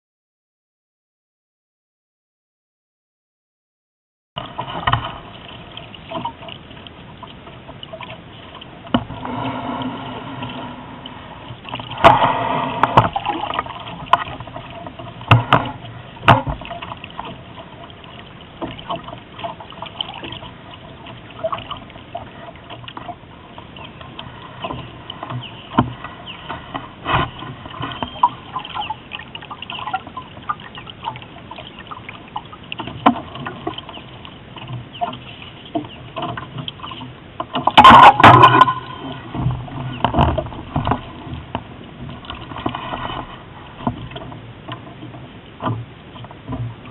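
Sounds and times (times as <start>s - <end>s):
sharp splashes and knocks: 4.4s - 46.9s
water slapping against boat hull: 4.4s - 46.9s.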